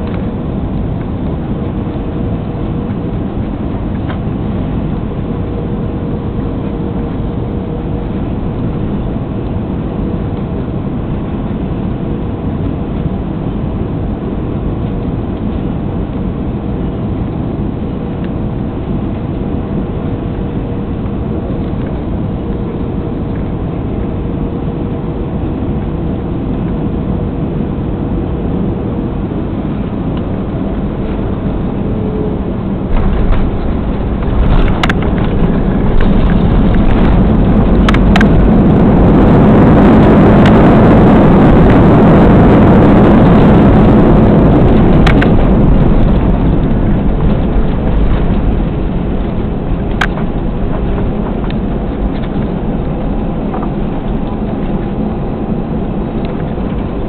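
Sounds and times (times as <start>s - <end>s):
airplane cabin engine and airflow noise: 0.0s - 57.0s
steady whine: 0.0s - 57.0s.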